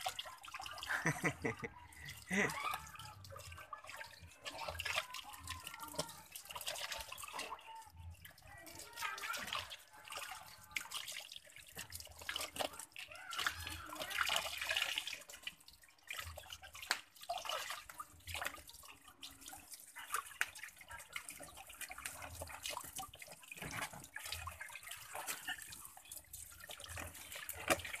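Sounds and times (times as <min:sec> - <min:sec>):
water dripping: 0:00.0 - 0:28.0
water splashing in plastic tub: 0:00.0 - 0:28.0.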